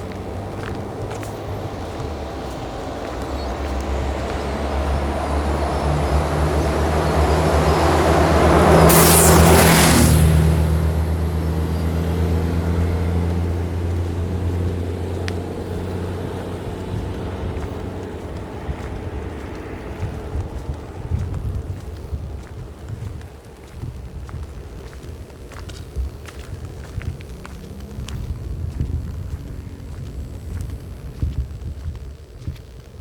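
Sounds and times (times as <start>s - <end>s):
vehicle passing by: 0.0s - 32.1s.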